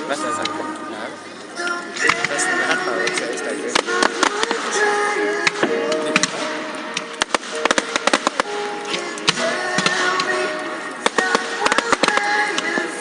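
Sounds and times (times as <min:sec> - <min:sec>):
fireworks crackling and popping: 0:00.0 - 0:13.0
music playing: 0:00.0 - 0:13.0.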